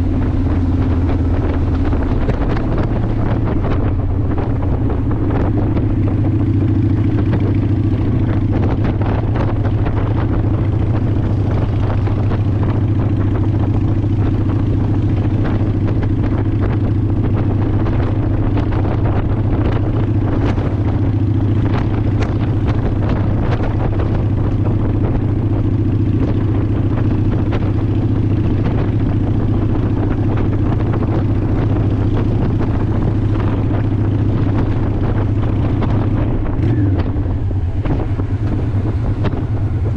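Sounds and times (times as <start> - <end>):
motorcycle engine cruising: 0.0 - 39.9
wind buffeting microphone: 0.0 - 39.9.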